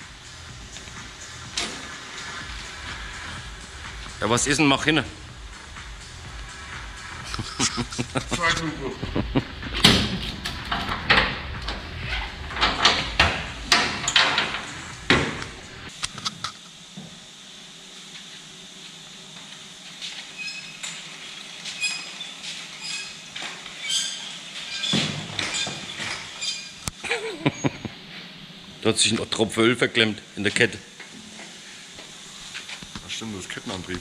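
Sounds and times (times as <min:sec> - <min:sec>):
workshop background: 0:00.0 - 0:34.0.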